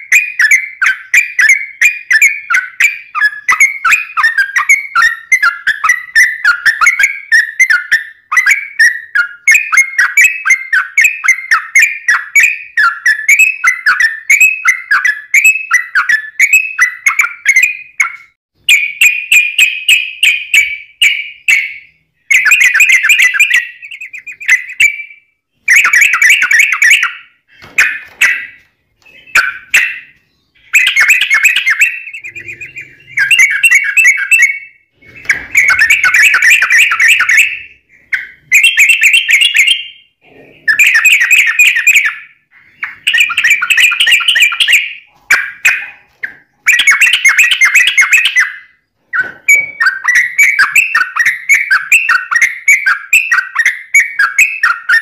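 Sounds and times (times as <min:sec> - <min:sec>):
bird singing bubbly phrases: 0:00.0 - 0:55.0.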